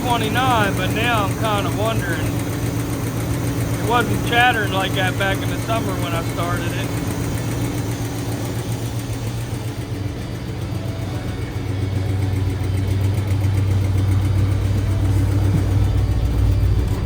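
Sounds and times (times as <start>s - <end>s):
car engine idling with valve chatter: 0.0s - 17.0s.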